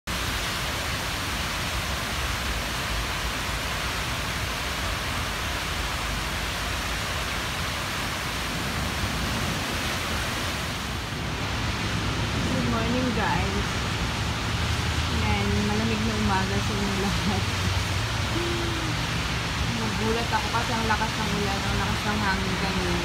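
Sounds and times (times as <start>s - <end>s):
heavy rain pouring: 0.1s - 23.0s.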